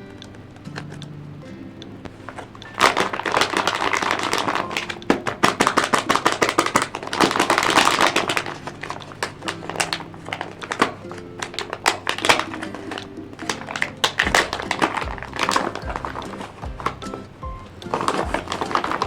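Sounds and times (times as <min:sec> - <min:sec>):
paper and tape crinkling: 0:02.1 - 0:19.0.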